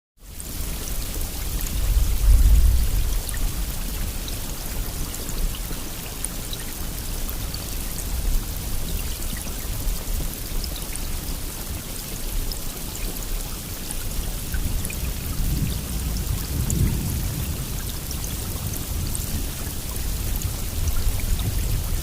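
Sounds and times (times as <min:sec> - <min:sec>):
steady rainfall: 0:00.2 - 0:22.0.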